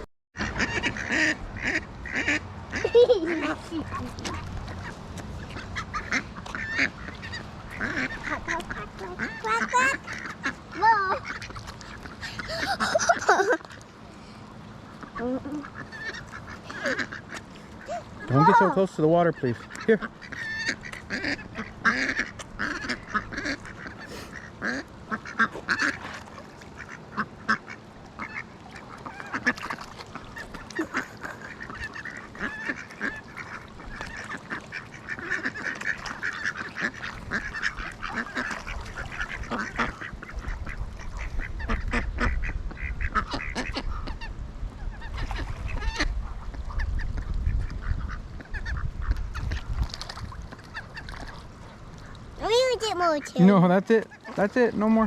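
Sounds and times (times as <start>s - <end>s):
waterfowl calling: 0.4s - 14.0s, 14.9s - 55.0s.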